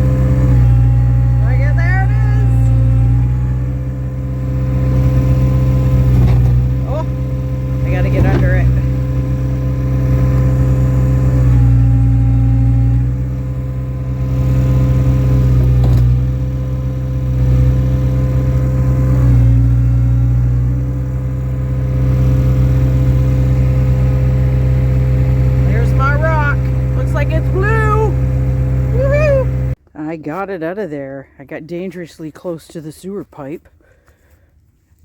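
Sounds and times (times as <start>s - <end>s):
skid steer engine under load: 0.0s - 29.8s.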